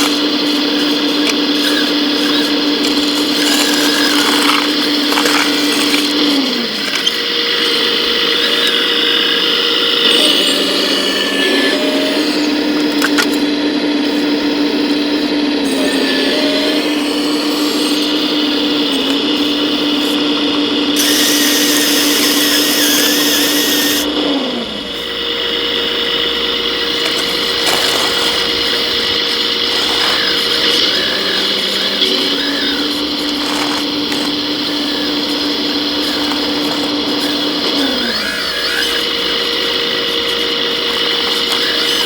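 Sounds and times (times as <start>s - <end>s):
small electric motors whining: 0.0s - 42.0s.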